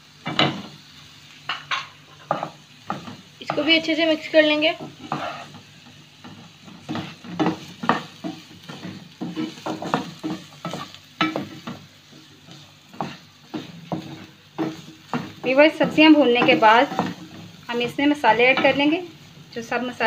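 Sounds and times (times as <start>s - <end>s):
vegetables sizzling in oil: 0.0s - 20.0s
wooden spatula scraping pan: 1.5s - 19.0s.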